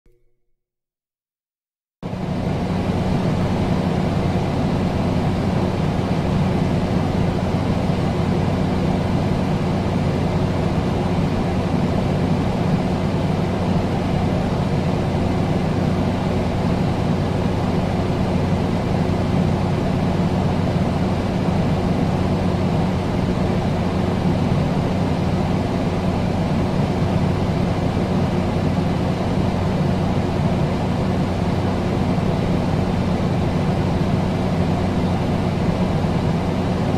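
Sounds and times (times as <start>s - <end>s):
electric fan running: 2.0s - 36.9s.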